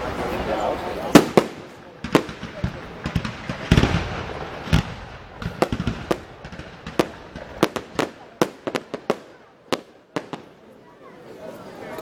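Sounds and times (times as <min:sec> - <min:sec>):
fireworks exploding: 0:00.0 - 0:10.7.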